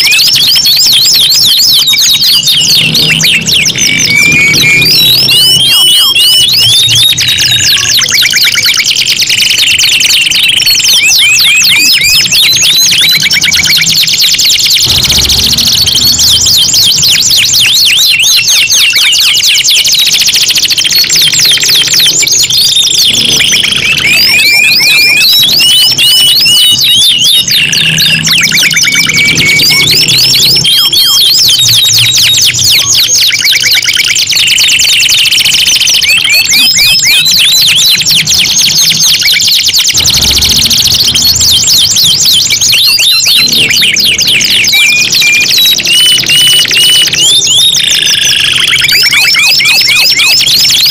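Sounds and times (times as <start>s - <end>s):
canaries singing trills: 0.0s - 50.9s.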